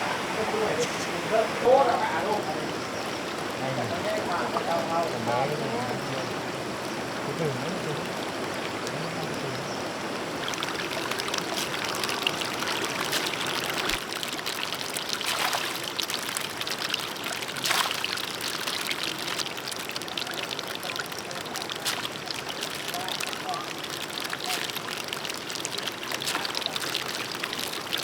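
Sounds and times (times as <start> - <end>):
water splashes: 0.0 - 28.0
water trickling and pouring: 0.0 - 28.0.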